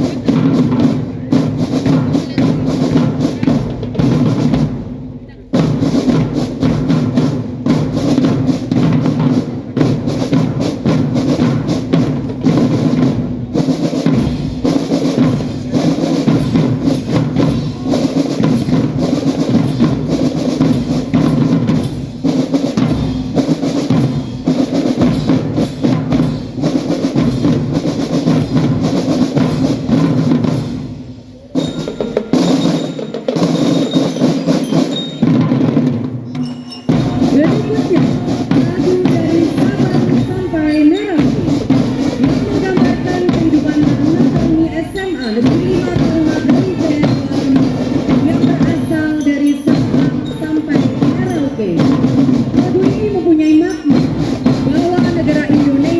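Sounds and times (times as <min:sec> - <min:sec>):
marching drum band playing: 0:00.0 - 0:55.9.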